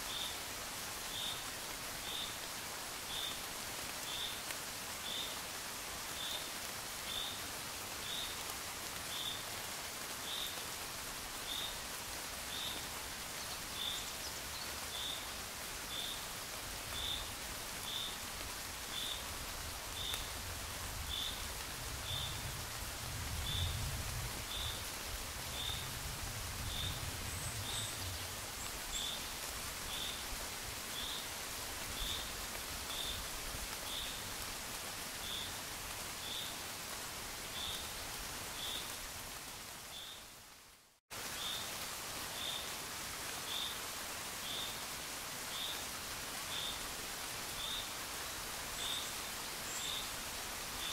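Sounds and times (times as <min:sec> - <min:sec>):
gentle rain falling: 0:00.0 - 0:50.9.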